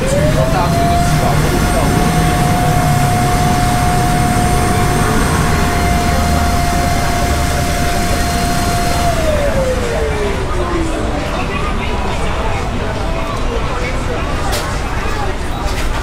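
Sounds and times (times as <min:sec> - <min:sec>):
cotton candy machine spinner whine: 0:00.0 - 0:15.8.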